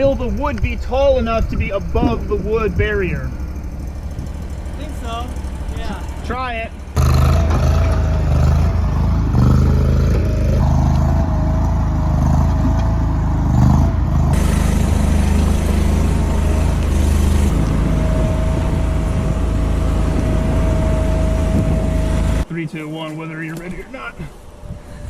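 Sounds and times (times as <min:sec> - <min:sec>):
engine running under load: 0:00.0 - 0:22.5
thin steady whine: 0:00.0 - 0:25.0.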